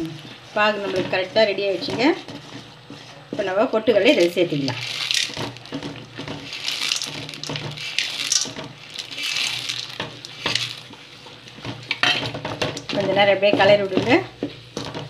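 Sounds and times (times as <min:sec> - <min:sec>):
grains and spoon scraping pan: 0:00.0 - 0:15.0.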